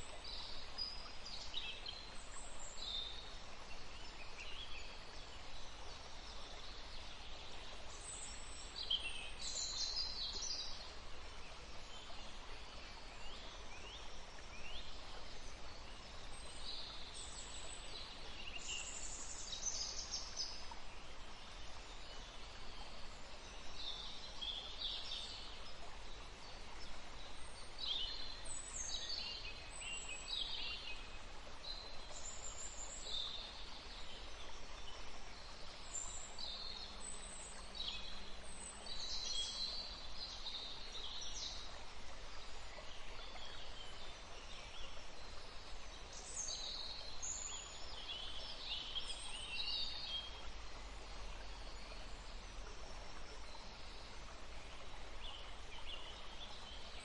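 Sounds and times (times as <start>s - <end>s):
forest stream rushing: 0.0s - 57.0s
songbirds singing: 0.0s - 57.0s.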